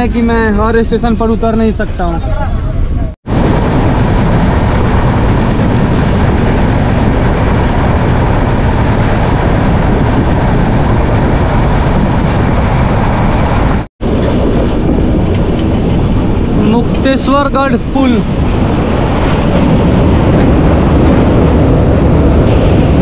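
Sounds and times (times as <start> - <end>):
train wheel and air rush: 2.6 - 23.0.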